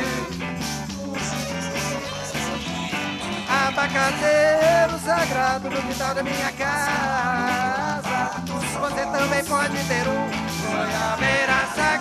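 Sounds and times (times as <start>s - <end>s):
bending melodic guitar line: 0.0s - 12.0s
live rock band: 0.0s - 12.0s.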